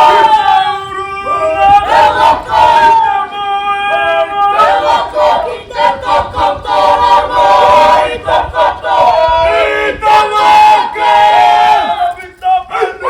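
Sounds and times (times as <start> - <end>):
group singing and chanting: 0.0 - 13.0.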